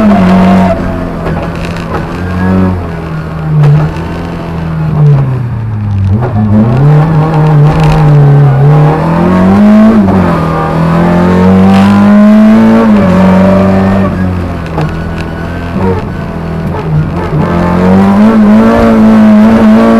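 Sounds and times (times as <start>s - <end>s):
rally car engine revving: 0.0s - 19.9s.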